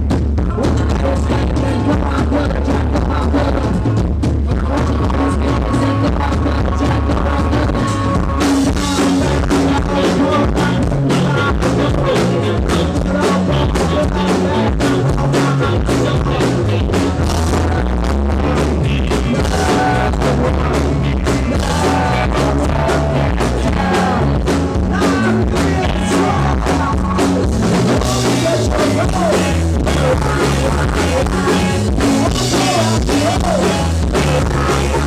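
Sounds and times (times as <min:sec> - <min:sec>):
bass guitar: 0:00.0 - 0:35.0
drum kit steady beat: 0:00.0 - 0:35.0
electric guitar: 0:00.0 - 0:35.0
man singing: 0:00.4 - 0:35.0.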